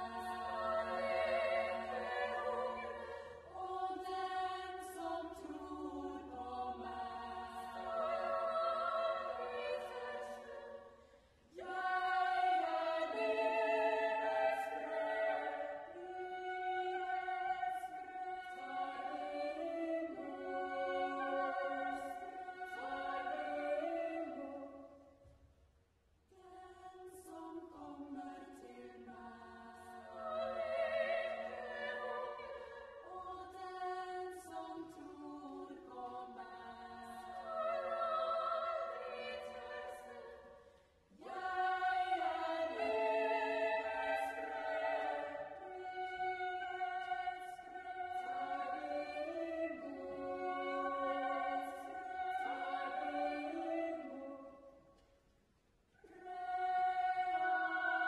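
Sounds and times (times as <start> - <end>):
women's choir singing: 0.0 - 25.2, 26.3 - 55.0, 56.0 - 58.0.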